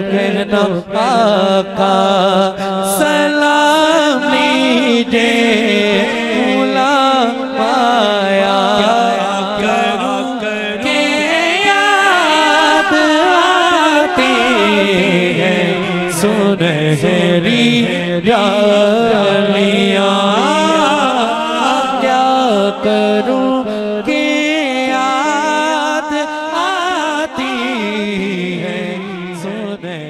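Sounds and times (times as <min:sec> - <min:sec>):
man singing into microphone: 0:00.0 - 0:30.0.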